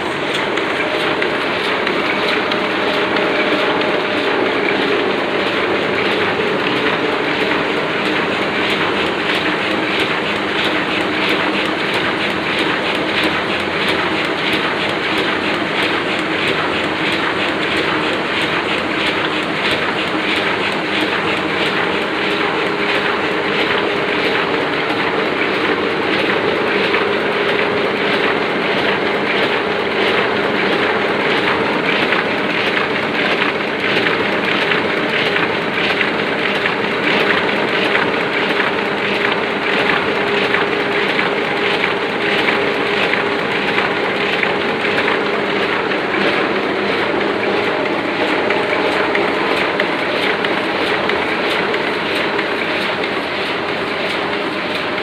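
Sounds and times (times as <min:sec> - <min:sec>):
printing press clattering: 0:00.0 - 0:55.0.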